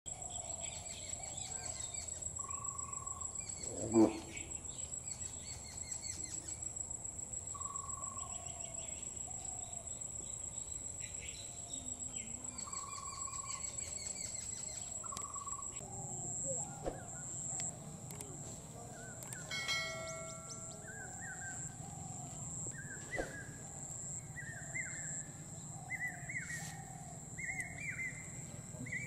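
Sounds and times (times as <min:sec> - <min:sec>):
pulsing insect trill: 0:00.1 - 0:29.0
small birds chirping: 0:00.1 - 0:29.0.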